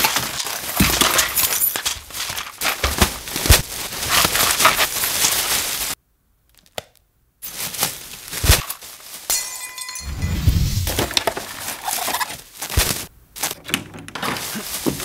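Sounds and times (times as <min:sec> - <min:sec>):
plastic bag rustling: 0:00.0 - 0:06.0, 0:07.4 - 0:15.0.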